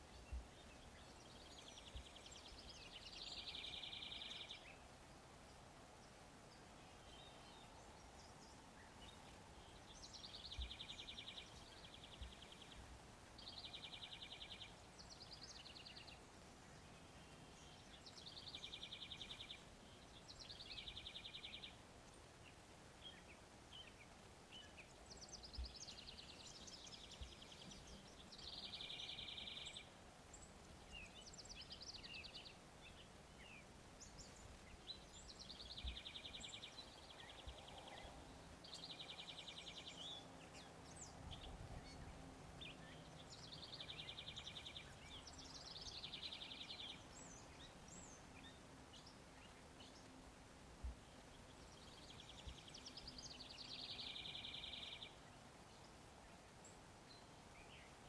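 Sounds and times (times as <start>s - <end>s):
songbirds trilling: 0.0s - 58.0s.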